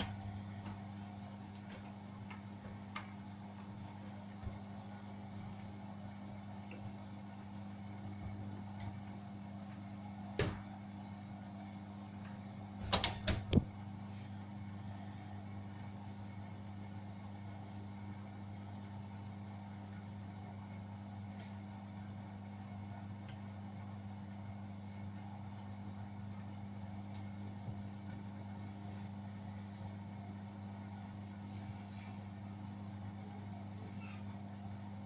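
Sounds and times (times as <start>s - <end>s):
washing machine spinning hum: 0.0s - 35.0s.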